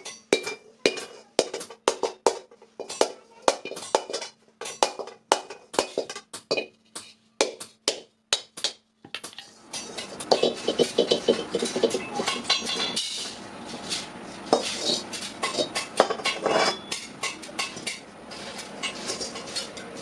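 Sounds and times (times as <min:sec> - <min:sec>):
hammer striking metal pan: 0:00.0 - 0:13.4, 0:14.5 - 0:18.0.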